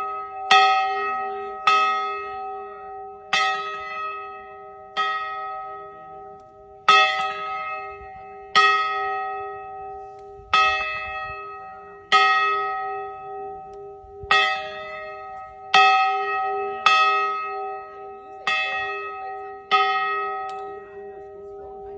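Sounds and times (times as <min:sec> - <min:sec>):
large bell ringing: 0:00.0 - 0:21.9.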